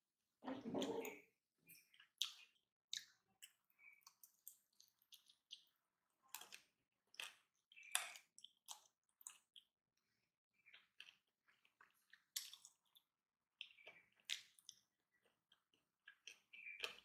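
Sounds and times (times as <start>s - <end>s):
mouth chewing with wet smacks: 1.0s - 17.0s.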